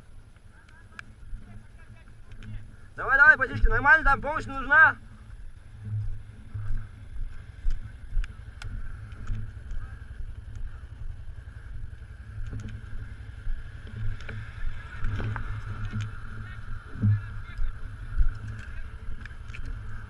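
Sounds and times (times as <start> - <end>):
gusting low rumble: 0.0 - 20.0
high wavering whine: 0.0 - 20.0.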